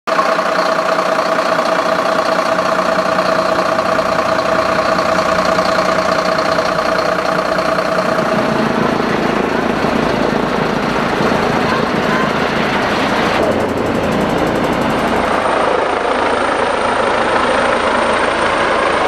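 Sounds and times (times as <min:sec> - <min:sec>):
constant whine: 0:00.1 - 0:19.0
diesel engine idling: 0:00.1 - 0:19.0.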